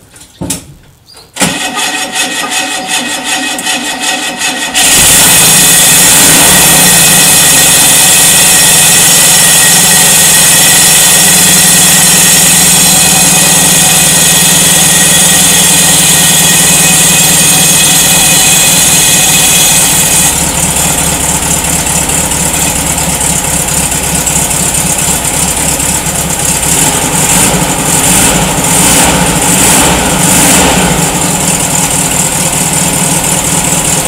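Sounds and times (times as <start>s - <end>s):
engine running: 1.4s - 34.0s.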